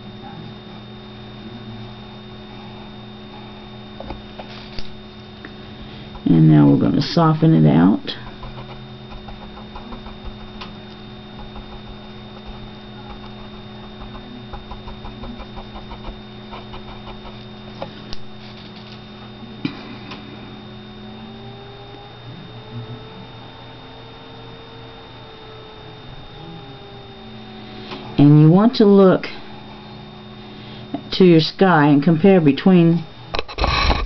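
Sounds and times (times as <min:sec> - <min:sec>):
faint rising and falling tone: 0:00.0 - 0:31.1
electrical mains hum: 0:00.0 - 0:34.0.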